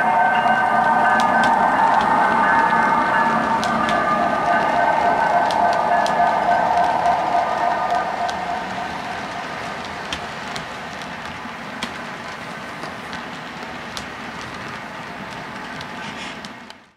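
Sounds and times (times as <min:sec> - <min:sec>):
model train wheels rumbling on rail: 0:00.4 - 0:16.9
wheels clicking over track joints: 0:00.8 - 0:16.9.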